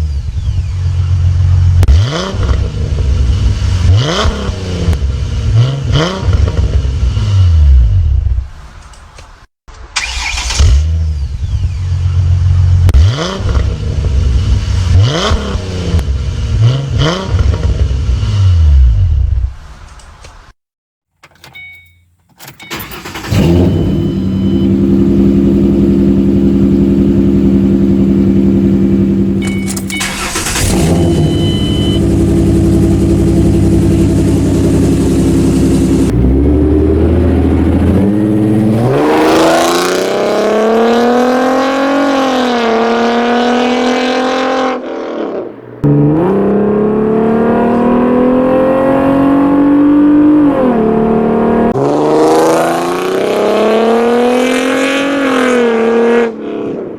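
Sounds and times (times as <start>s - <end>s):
car engine idling and revving: 0.0s - 20.5s, 22.7s - 56.9s.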